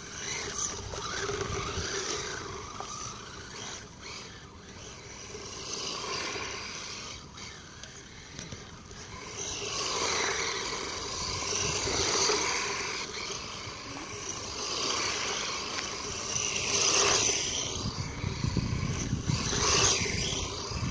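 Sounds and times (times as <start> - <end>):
electric motor whirring: 0.0 - 20.9
tyres churning through snow: 0.0 - 20.9.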